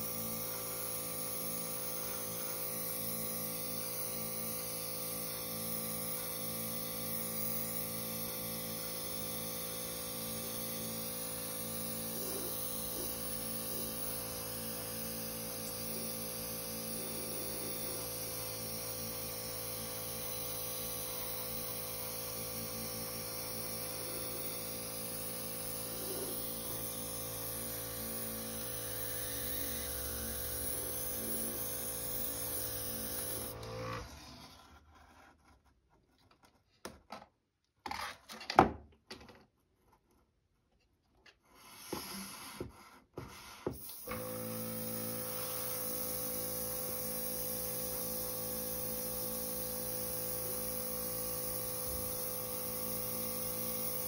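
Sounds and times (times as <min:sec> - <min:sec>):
airbrush hissing: 0:00.0 - 0:33.6, 0:43.8 - 0:54.0
compressor humming: 0:00.0 - 0:34.1, 0:43.8 - 0:54.0.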